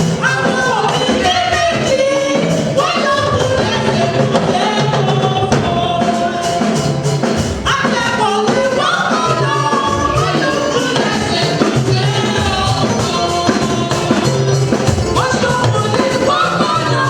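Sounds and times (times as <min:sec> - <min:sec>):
sustained bass notes: 0:00.0 - 0:17.0
voices singing a hymn: 0:00.0 - 0:17.0.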